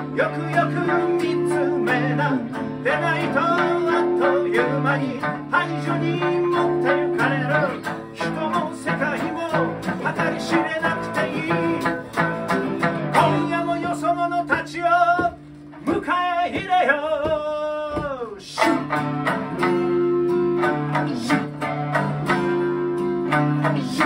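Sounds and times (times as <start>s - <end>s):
man singing: 0.0s - 19.7s, 20.3s - 24.0s
acoustic guitars strumming: 0.0s - 24.0s.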